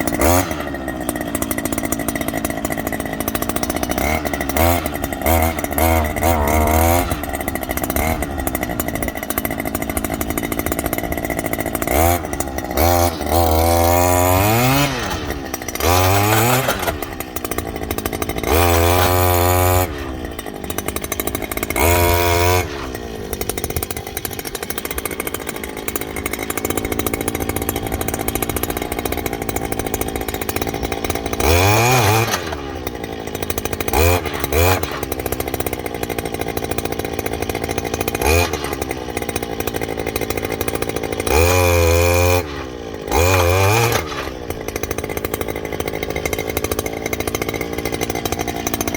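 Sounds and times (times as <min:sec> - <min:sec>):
earth auger engine revving: 0:00.0 - 0:48.9.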